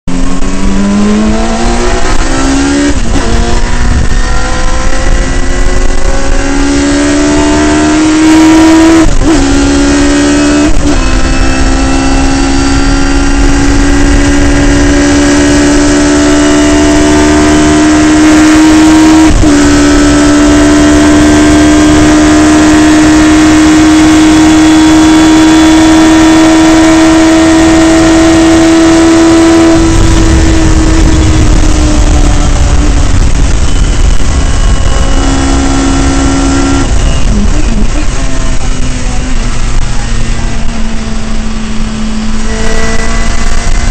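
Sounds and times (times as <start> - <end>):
race car engine at full throttle: 0.0 - 43.9.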